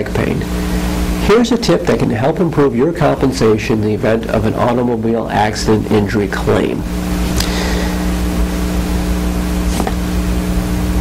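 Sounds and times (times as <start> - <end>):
electrical hum with hiss: 0.0 - 11.0.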